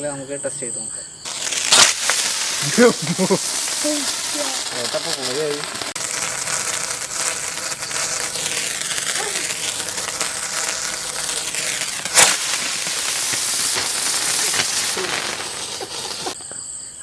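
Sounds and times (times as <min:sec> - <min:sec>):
firework spraying hiss: 0:01.3 - 0:16.4
sharp crack: 0:01.3 - 0:16.4.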